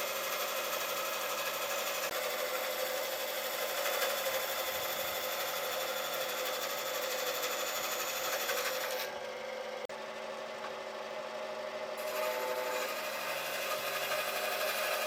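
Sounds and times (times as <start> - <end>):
electric power tool whirring: 0.0 - 9.9, 12.0 - 15.0.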